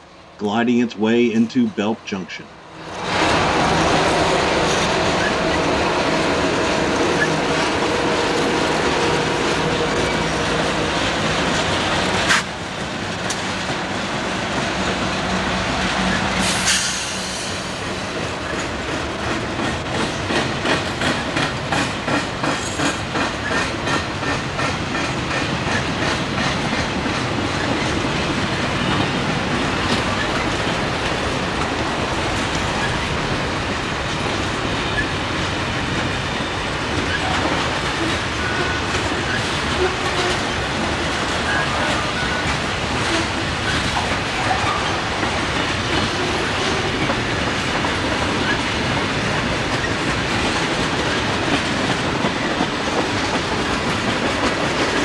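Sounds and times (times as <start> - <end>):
diesel locomotive hum: 2.5 - 55.0
train rumble: 2.6 - 55.0
wheels clicking over rail joints: 6.6 - 29.2, 29.8 - 55.0.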